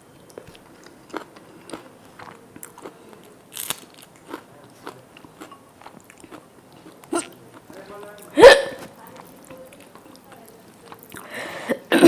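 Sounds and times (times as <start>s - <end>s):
person chewing food: 0.1s - 11.6s.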